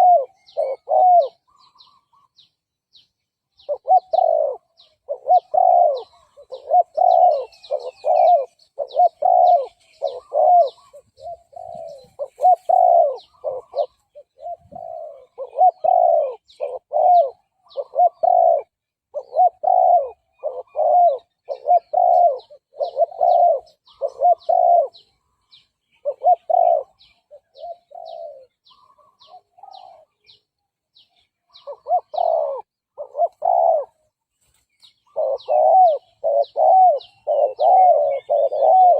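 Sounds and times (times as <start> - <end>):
dove cooing: 0.0 - 2.4, 3.6 - 30.4, 31.5 - 34.1, 34.9 - 38.9.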